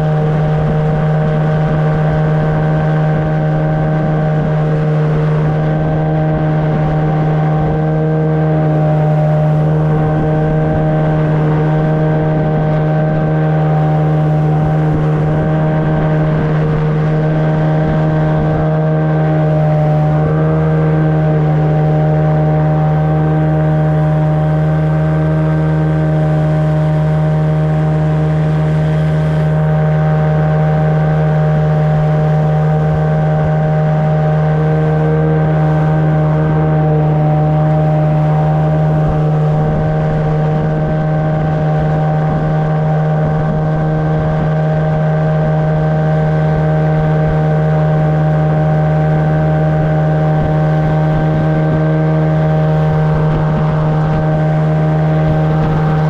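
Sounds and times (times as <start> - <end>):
boat outboard motor running: 0.0 - 56.0.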